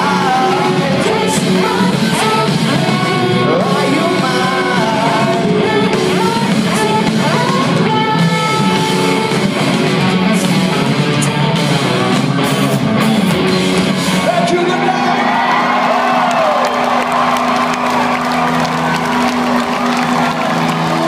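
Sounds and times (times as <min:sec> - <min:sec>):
distorted electric guitars: 0:00.0 - 0:21.0
rock band playing live: 0:00.0 - 0:21.0.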